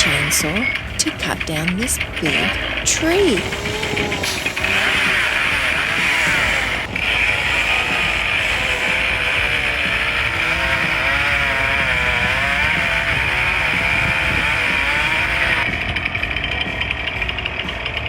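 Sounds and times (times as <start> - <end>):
chainsaw cutting into tree: 0.0 - 15.8.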